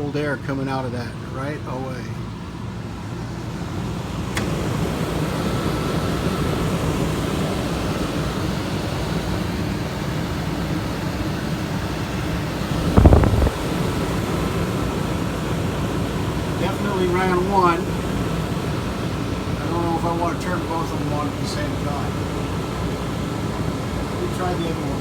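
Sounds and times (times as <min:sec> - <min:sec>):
air conditioner running: 0:00.0 - 0:25.0.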